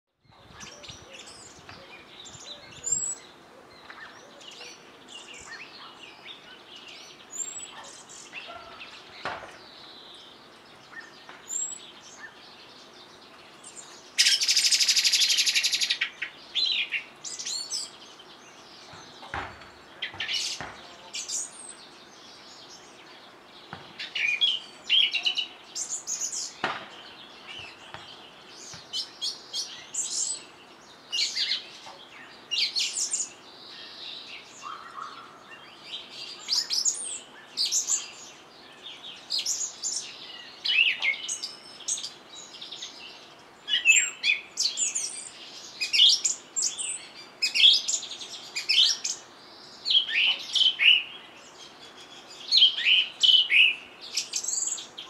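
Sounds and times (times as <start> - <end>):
small birds chirping: 0.1 - 55.0.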